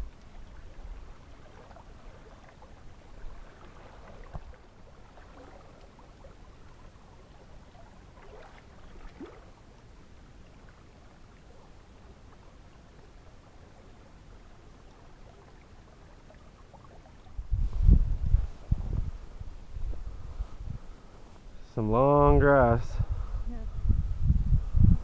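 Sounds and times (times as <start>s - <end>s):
small creek flowing: 0.0s - 23.8s.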